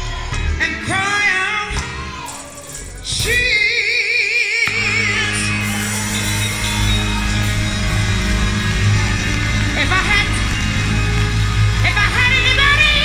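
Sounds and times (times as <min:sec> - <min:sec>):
gospel band with heavy bass: 0:00.0 - 0:13.0.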